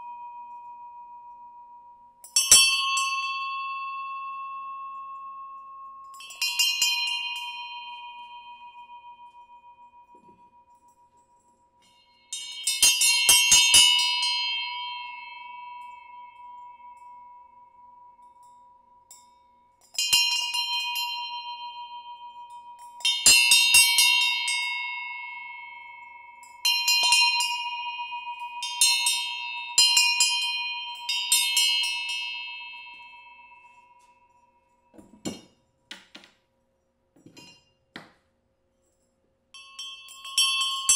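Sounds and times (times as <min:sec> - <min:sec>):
small bell ringing: 0:00.0 - 0:35.7, 0:37.2 - 0:38.1, 0:38.8 - 0:40.9.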